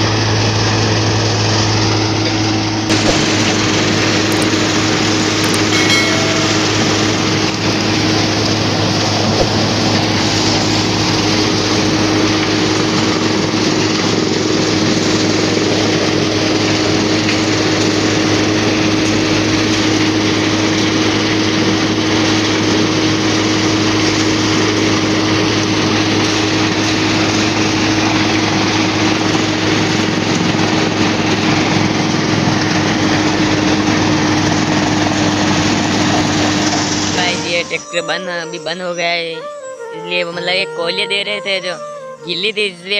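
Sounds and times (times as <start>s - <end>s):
tractor driving thresher: 0.0s - 39.2s.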